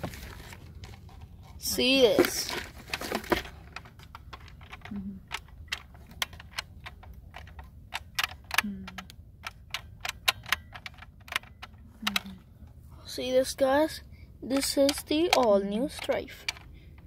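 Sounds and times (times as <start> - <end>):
plastic toy parts clicking: 0.8 - 12.4, 14.5 - 17.0.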